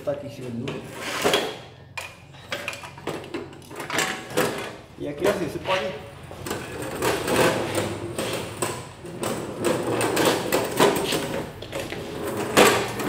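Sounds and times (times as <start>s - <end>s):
metal cart wheels rattling on concrete: 2.5s - 13.0s.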